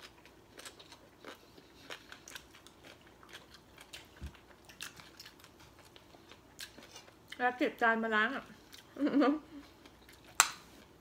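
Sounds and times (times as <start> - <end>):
person chewing and crunching food: 0.0 - 7.4, 8.5 - 11.0.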